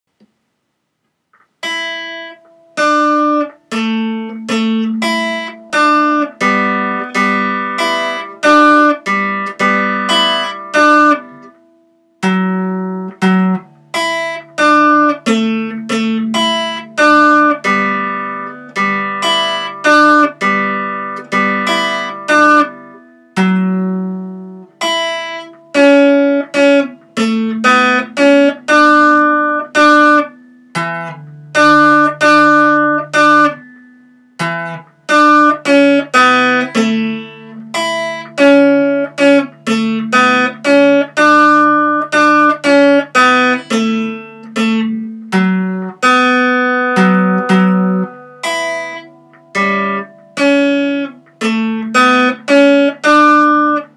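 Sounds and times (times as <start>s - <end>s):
acoustic guitar picking: 1.3s - 53.9s.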